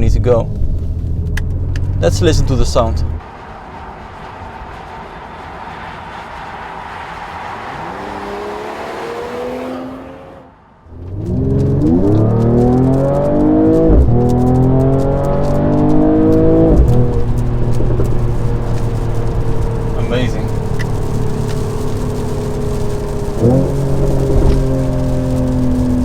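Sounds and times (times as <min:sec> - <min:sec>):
exhaust pops and crackles: 0:00.0 - 0:08.4, 0:10.9 - 0:26.0
car engine accelerating hard: 0:00.0 - 0:26.0
gear upshifts: 0:00.0 - 0:26.0
road noise: 0:00.0 - 0:26.0.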